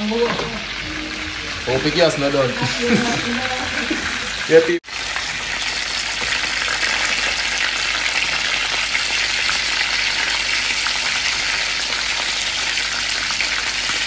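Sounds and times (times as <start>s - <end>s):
chicken sizzling with pops: 0.0s - 14.0s.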